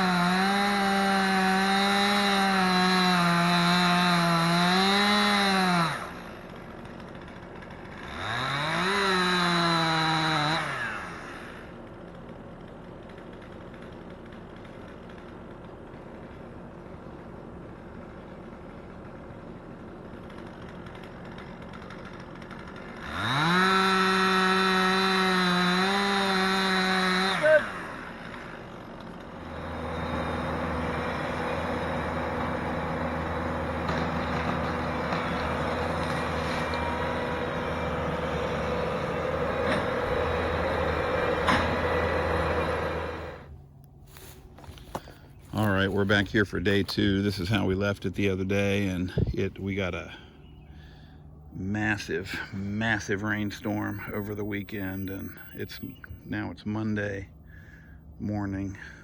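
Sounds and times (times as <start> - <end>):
chainsaw revving: 0.0 - 46.3, 51.6 - 56.1
diesel machine droning: 0.0 - 59.0
heavy engine under load: 0.0 - 59.0.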